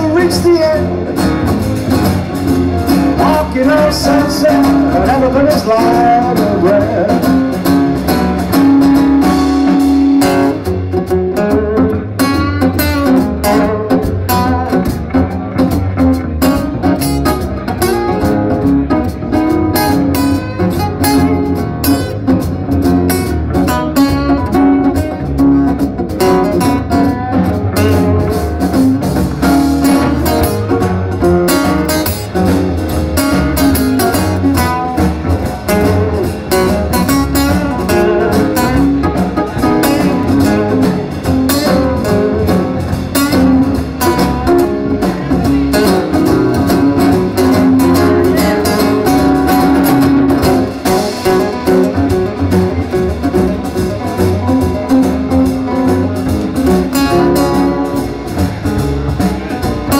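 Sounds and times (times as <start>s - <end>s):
acoustic guitars playing: 0.0s - 59.9s
upright double bass: 0.0s - 59.9s.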